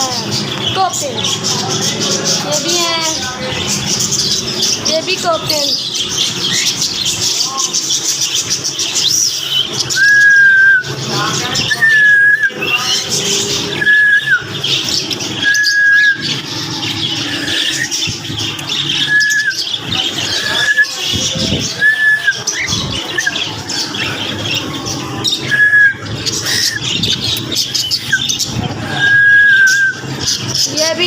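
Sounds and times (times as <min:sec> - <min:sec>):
birds squawking and chirping: 0:00.0 - 0:31.0.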